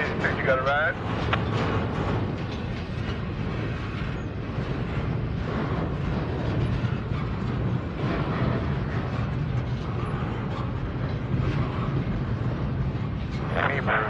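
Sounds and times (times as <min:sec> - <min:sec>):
faint clicks and clatter: 0:00.0 - 0:14.0
rail cars rumbling on track: 0:00.0 - 0:14.0.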